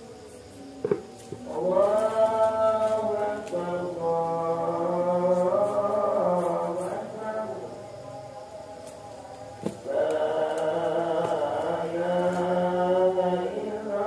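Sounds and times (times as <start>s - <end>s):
person chanting held notes: 0.0s - 14.0s.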